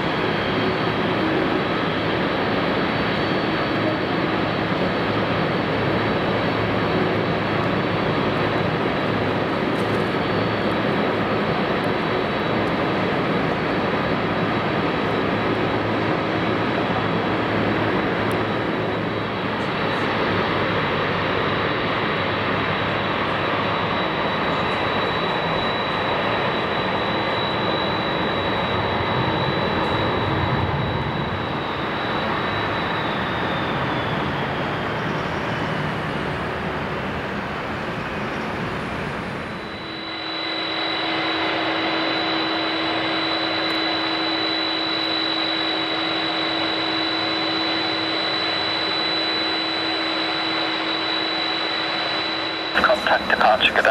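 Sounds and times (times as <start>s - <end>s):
jet airliner engines whining: 0.0s - 53.9s.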